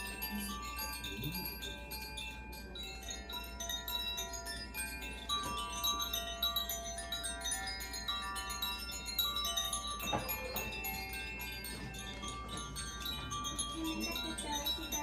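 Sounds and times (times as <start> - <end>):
chimes ringing: 0.0 - 15.0.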